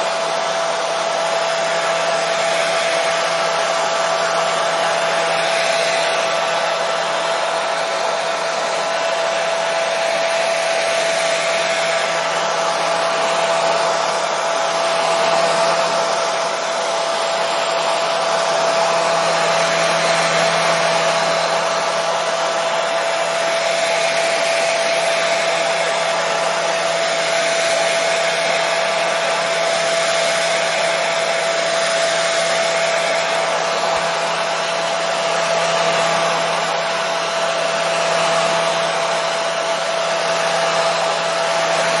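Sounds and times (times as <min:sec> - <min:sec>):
hair dryer running: 0:00.0 - 0:42.0.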